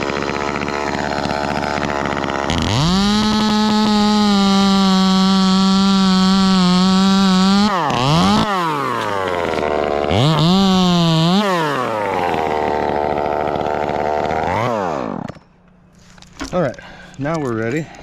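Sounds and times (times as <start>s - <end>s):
chainsaw revving and idling: 0.0s - 15.4s.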